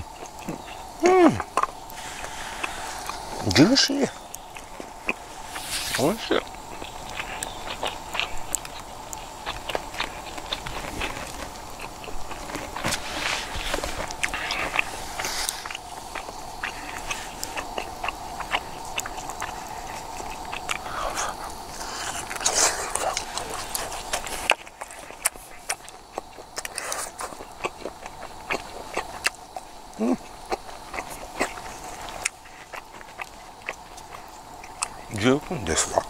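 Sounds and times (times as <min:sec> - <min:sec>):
person biting and chewing: 0:00.0 - 0:03.6, 0:04.2 - 0:35.0.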